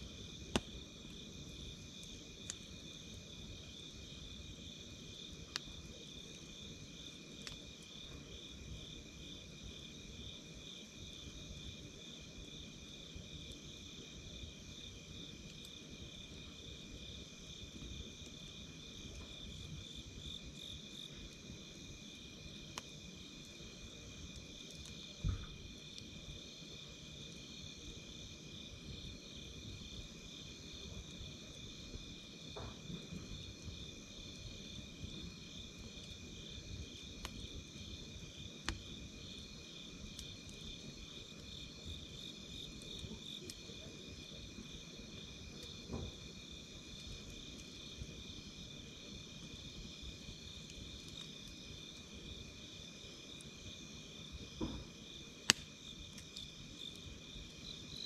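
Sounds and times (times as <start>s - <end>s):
fire popping: 0.0s - 8.8s, 15.3s - 26.4s, 29.0s - 58.0s
campfire crackling: 0.0s - 58.0s
night insects chirping: 0.0s - 58.0s.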